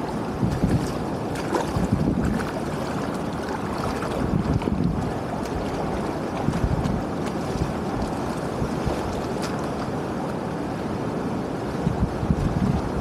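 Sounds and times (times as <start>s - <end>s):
wind buffeting microphone: 0.0s - 10.0s, 11.7s - 13.0s
wading through shallow water: 0.0s - 13.0s.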